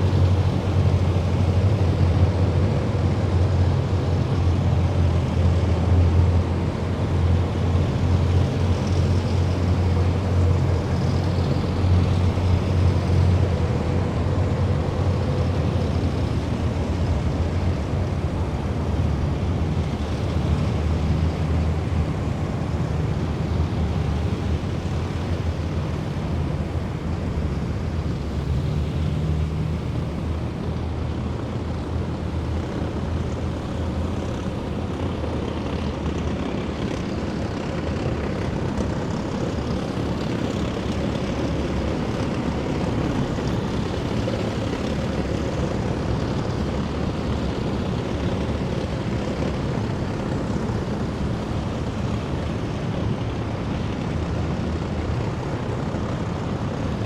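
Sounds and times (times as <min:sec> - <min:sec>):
heavy vehicle engines droning: 0:00.0 - 0:57.0.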